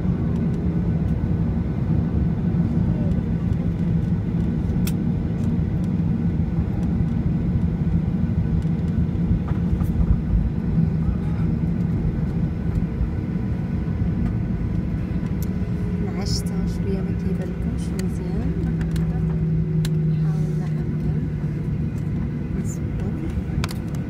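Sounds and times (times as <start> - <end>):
jet engines idling low rumble: 0.0 - 24.0.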